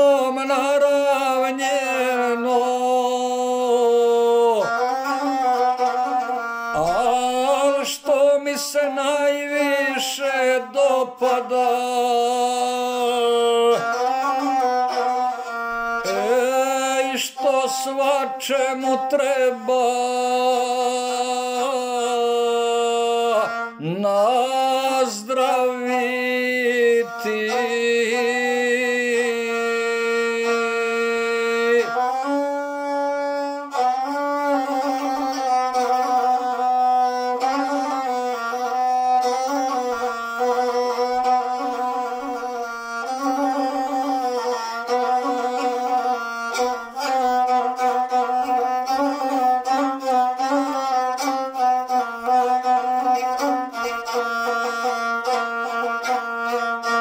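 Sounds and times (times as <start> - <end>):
bowed single-string fiddle melody: 0.0 - 57.0.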